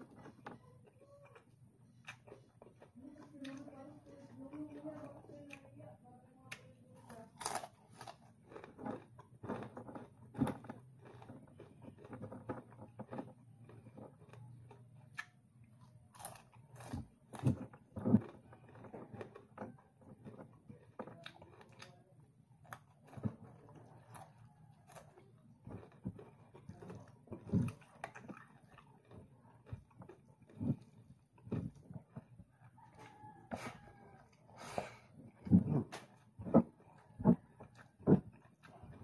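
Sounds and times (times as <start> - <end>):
chewing and crunching fried fish: 0.0 - 39.0.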